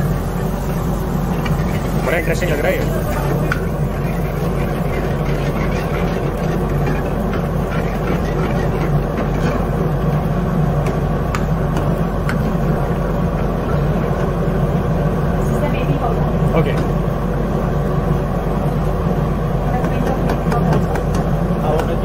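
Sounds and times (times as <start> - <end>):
kitchen equipment humming: 0.0 - 22.0.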